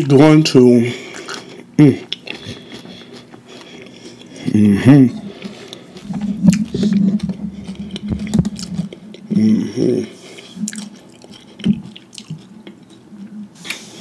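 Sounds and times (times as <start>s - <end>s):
crunchy chewing: 1.0s - 4.5s, 5.1s - 13.8s.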